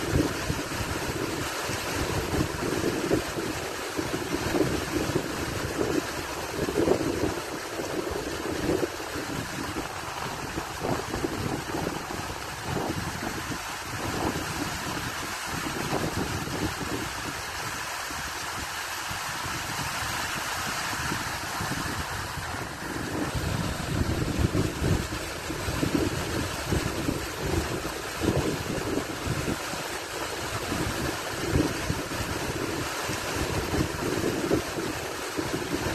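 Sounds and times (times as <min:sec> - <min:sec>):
stream water rushing: 0:00.0 - 0:35.9
wind buffeting microphone: 0:00.0 - 0:35.9.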